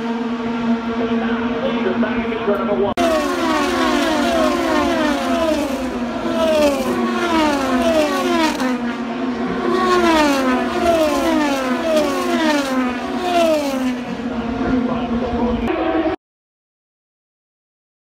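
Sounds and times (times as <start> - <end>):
race cars passing by: 0.0 - 16.2.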